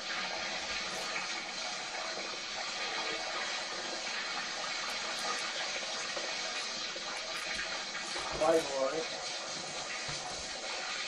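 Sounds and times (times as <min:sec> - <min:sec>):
water from hose rushing: 0:00.0 - 0:11.0.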